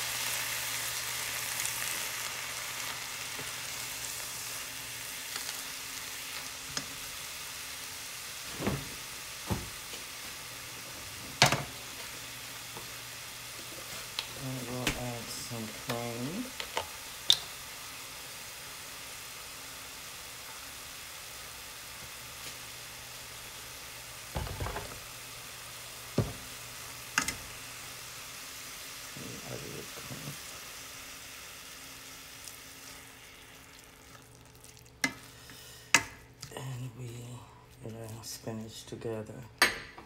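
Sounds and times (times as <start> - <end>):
vegetables sizzling in a skillet: 0.0 - 38.9.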